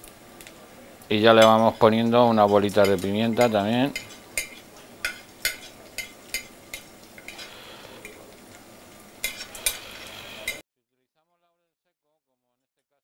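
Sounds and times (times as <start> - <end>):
onion sizzling in oil: 0.0 - 10.6.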